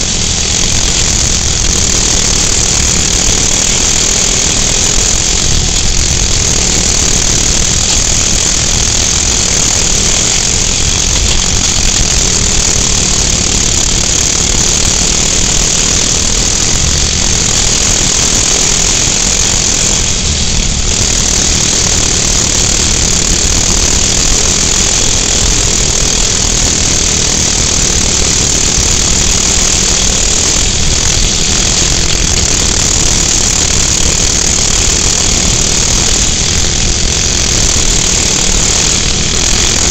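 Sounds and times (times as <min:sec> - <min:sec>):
small engine running hard: 0:00.0 - 0:39.9
steady hiss: 0:00.0 - 0:39.9.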